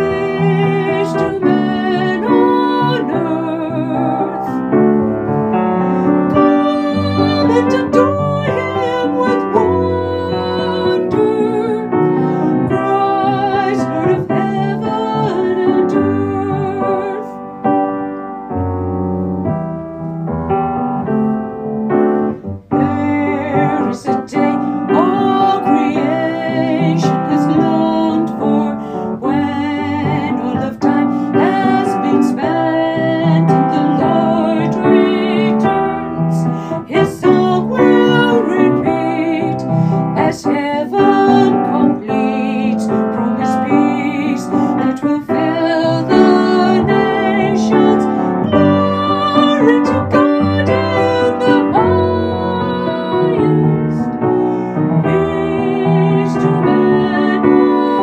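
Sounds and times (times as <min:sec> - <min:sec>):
person singing with vibrato: 0:00.0 - 0:17.8, 0:22.3 - 0:58.0
piano accompaniment: 0:00.0 - 0:58.0.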